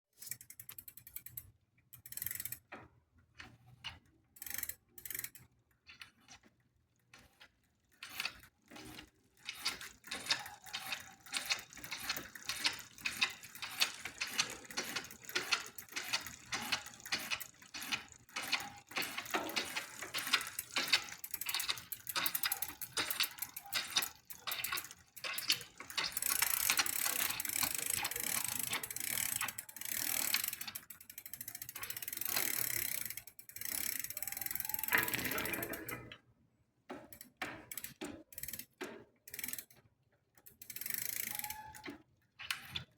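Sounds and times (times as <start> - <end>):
bicycle drivetrain clicking: 0.2 - 36.2, 36.9 - 42.9.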